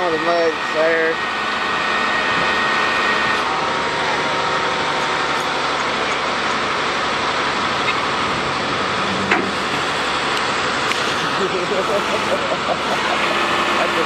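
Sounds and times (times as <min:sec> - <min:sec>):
vehicle engine: 0:00.0 - 0:14.0.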